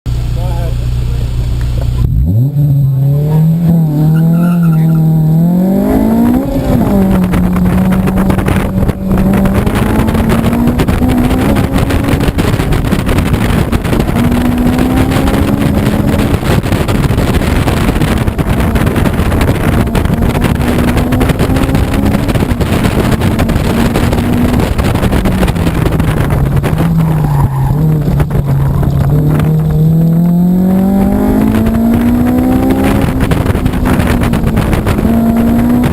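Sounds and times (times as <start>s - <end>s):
car engine revving hard: 1.9s - 35.9s.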